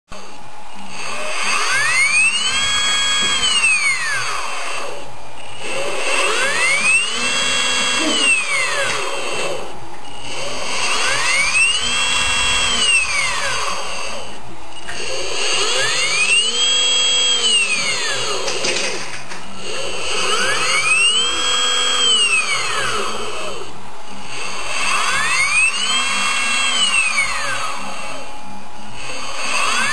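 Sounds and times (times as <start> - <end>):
electric motor whining: 0.1 - 29.9.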